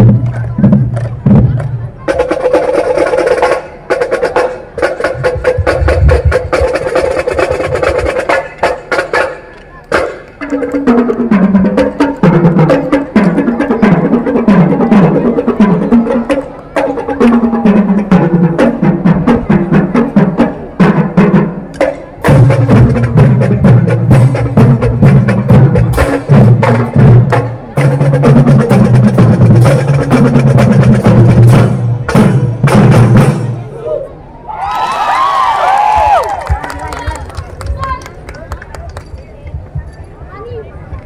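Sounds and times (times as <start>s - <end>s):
rapid drum strokes: 0.0s - 33.8s
marching band playing: 0.0s - 34.3s.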